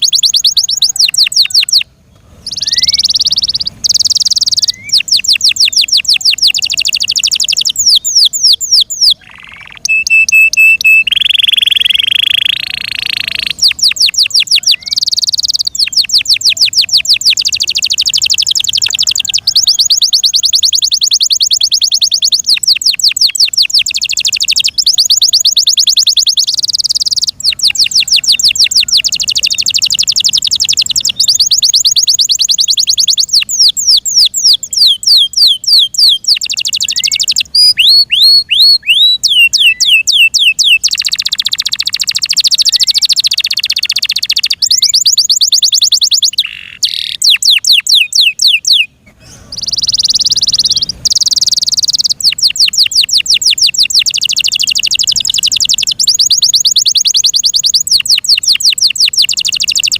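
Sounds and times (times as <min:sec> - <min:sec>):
canary singing rapid trills: 0:00.0 - 0:59.9.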